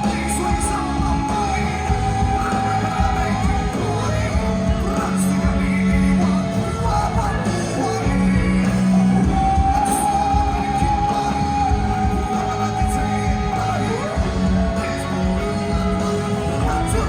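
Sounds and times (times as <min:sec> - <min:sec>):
live band playing amplified music: 0:00.0 - 0:17.0
person singing: 0:00.0 - 0:17.0.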